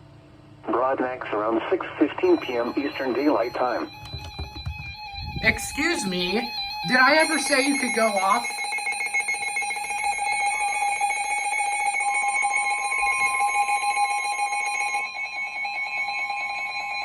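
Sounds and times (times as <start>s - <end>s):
rapidly pulsing alarm: 1.4s - 17.0s
steady high alarm tone: 2.0s - 17.0s.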